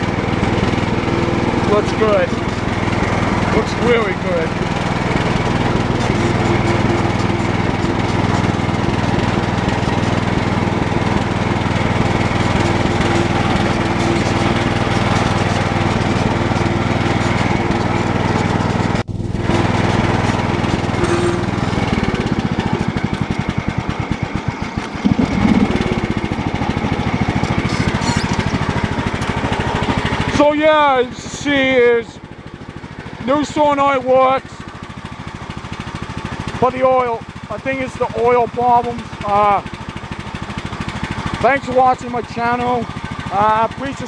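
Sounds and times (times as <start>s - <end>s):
lawn tractor engine running: 0.0s - 44.0s.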